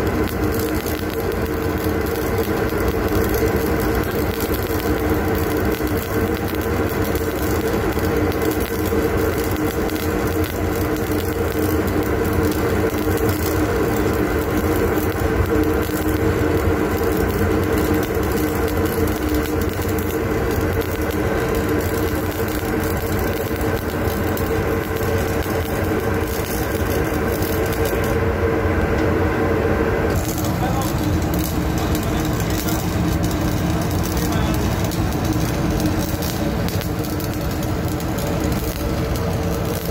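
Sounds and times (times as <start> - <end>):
machine hum: 0.0 - 39.9
welding arc crackling: 0.0 - 39.9.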